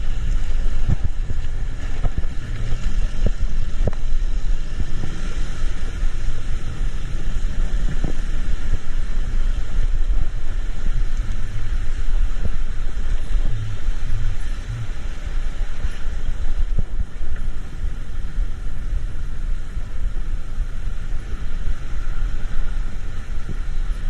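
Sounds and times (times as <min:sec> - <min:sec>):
vehicle rumbling on road: 0:00.0 - 0:24.0.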